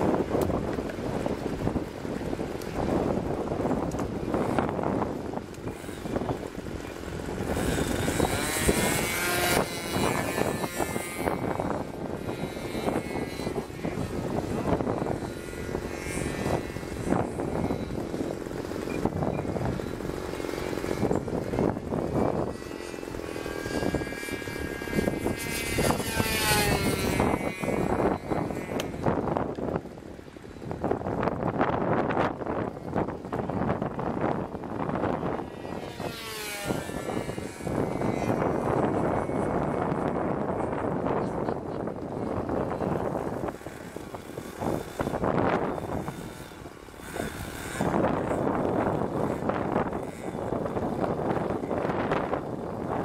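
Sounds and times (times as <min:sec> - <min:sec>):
model airplane motor buzzing: 0:00.0 - 0:53.0
wind buffeting microphone: 0:00.0 - 0:53.0.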